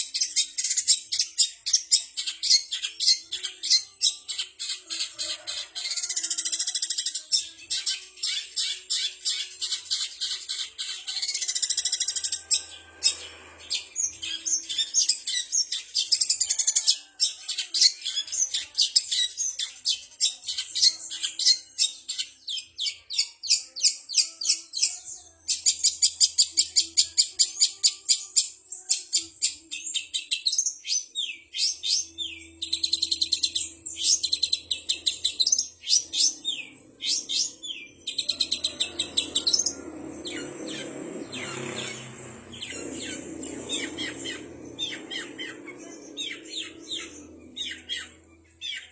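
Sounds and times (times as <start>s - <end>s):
songbirds chirping and trilling: 0.0s - 48.9s.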